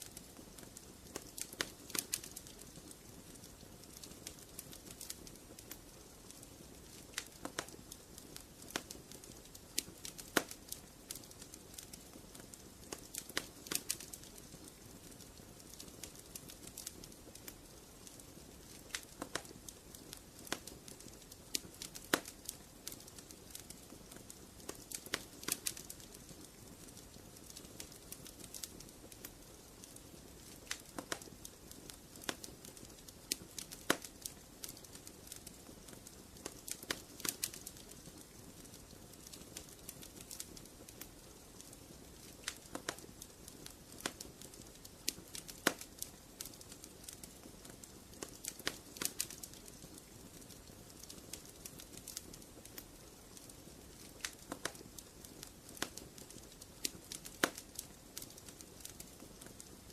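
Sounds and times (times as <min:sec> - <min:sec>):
soft steady hiss: 0:00.0 - 0:59.9
wood fire crackling: 0:00.0 - 0:59.9.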